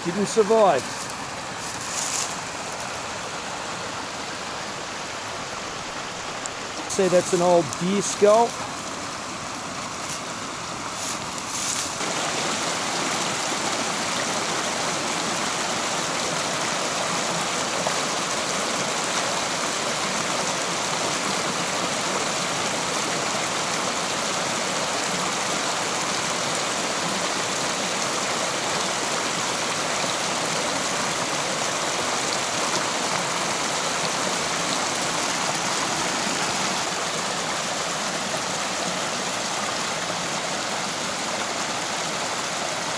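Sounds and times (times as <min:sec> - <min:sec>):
stream water rushing: 0:00.0 - 0:42.9.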